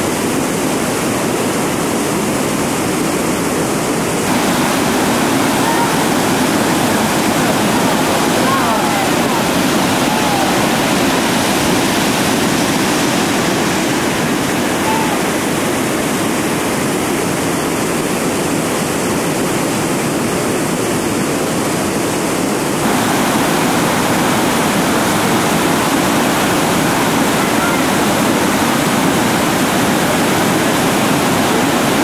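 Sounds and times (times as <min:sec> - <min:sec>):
whitewater rushing: 0:00.0 - 0:32.0.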